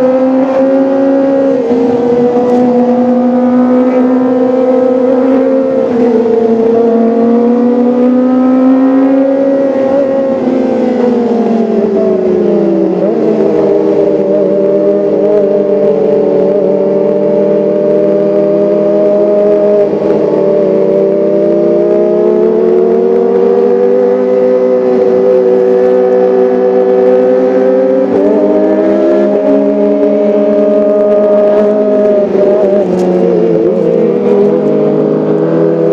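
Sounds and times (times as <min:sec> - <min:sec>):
motorcycle engine revving high: 0:00.0 - 0:35.9.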